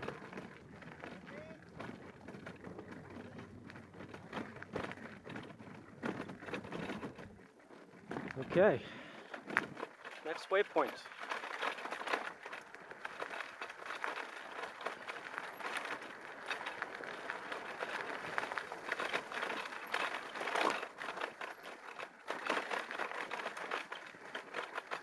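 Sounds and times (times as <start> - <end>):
bike tyres crackling on gravel: 0.0 - 6.6, 7.2 - 25.0.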